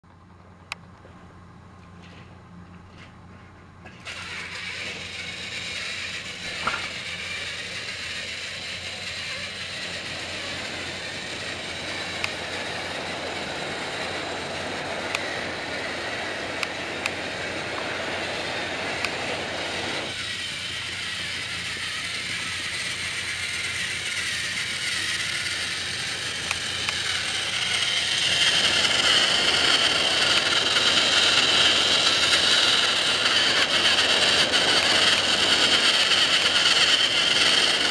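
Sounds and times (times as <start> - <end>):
toy train motor whirring: 3.9 - 37.9.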